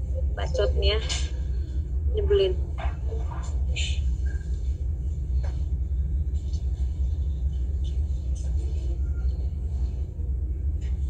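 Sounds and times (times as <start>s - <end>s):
low rumbling hum: 0.0s - 11.0s.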